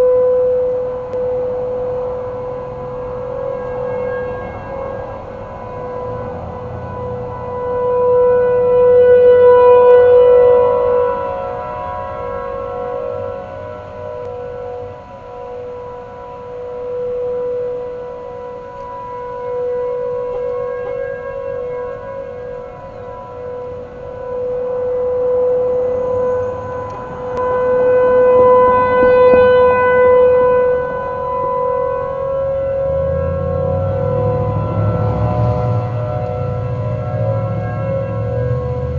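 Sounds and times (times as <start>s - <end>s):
warning sirens wailing: 0.0s - 38.9s.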